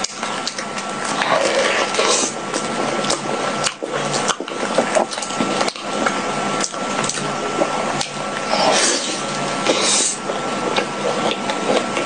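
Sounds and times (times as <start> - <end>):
wet squishy chewing: 0.0 - 12.0.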